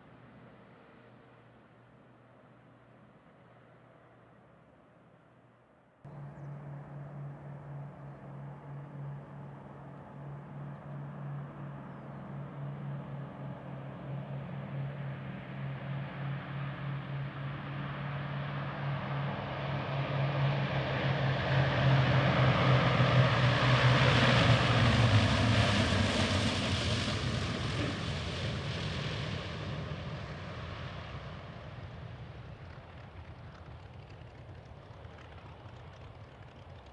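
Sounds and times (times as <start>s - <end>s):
propeller aircraft engines droning: 0.0s - 36.9s.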